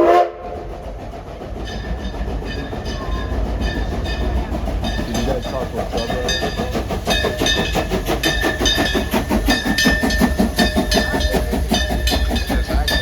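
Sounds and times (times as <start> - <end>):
train wheels clicking over rail joints: 0.0 - 13.0.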